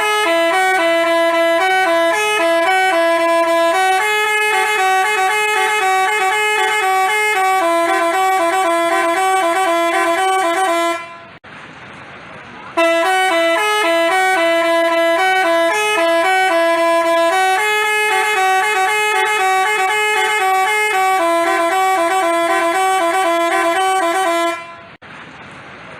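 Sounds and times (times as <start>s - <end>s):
musical bus horn tune: 0.0s - 11.4s, 12.8s - 25.0s.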